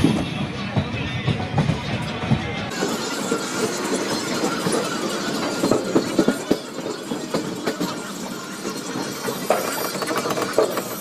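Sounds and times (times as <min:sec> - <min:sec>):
train running noise: 0:00.0 - 0:11.0
wheels clacking over rail joints: 0:00.0 - 0:11.0.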